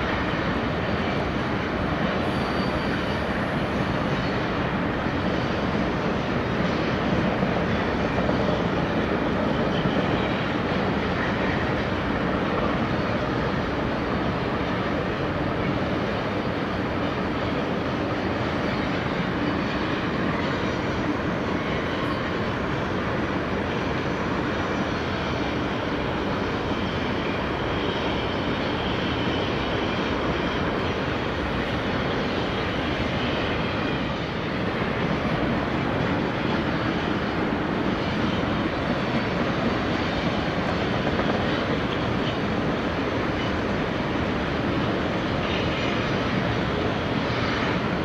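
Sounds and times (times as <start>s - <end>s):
train wheels roaring on rail: 0.0s - 48.0s.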